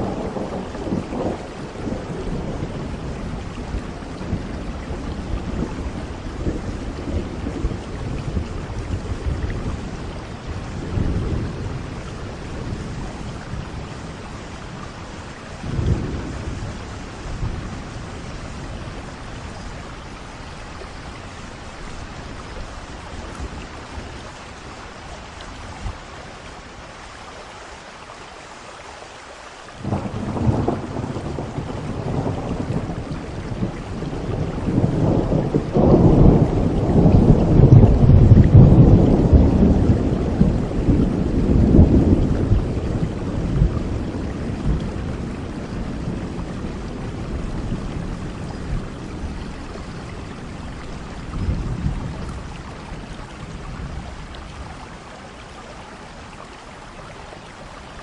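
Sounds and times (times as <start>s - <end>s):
rolling thunder: 0.0s - 24.4s, 29.8s - 55.1s
steady rain: 0.0s - 58.0s.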